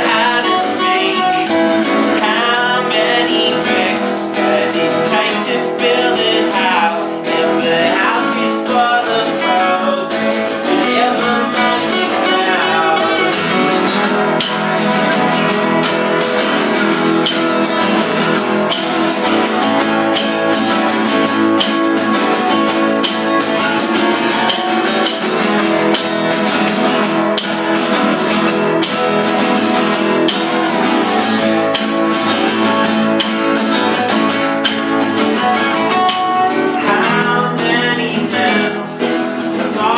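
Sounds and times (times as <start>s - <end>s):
percussion accents: 0.0s - 39.9s
strummed acoustic guitar: 0.0s - 39.9s.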